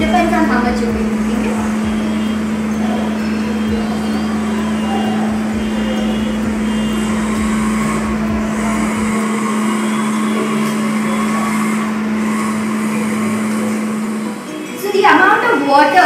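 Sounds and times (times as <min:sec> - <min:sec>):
electric blender motor running: 0:00.0 - 0:16.0.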